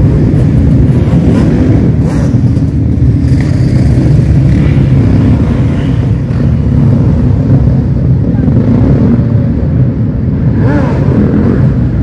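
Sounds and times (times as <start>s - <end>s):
quad bikes and dirt bikes passing: 0.0s - 12.0s.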